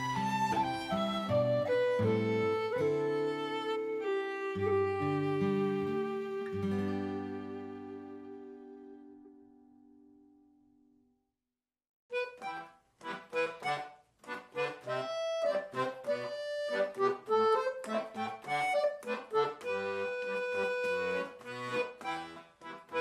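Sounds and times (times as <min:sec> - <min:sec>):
accordion playing lively tune: 0:00.0 - 0:08.6, 0:12.1 - 0:23.0.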